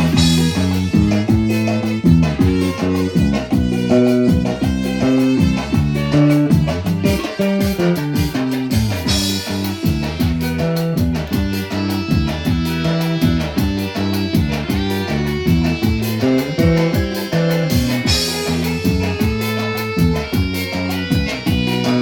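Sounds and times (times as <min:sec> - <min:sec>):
bass guitar: 0:00.0 - 0:22.0
drum kit: 0:00.0 - 0:22.0
guitar: 0:00.0 - 0:22.0.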